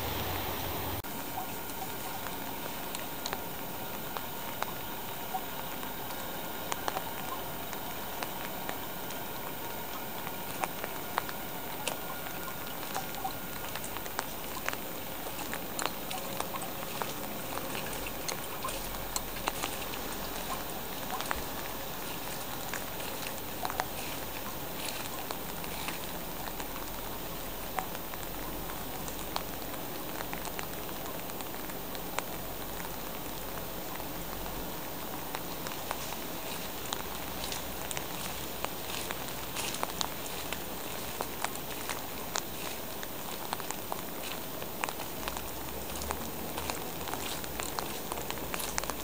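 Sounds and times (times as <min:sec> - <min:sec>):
rain falling: 0:00.0 - 0:49.0
raindrops tapping near microphone: 0:00.0 - 0:49.0.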